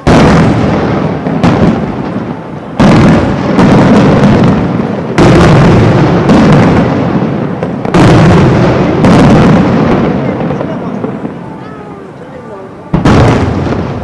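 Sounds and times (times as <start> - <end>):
fireworks bursting: 0.0 - 14.0
smaller firework reports: 0.0 - 14.0.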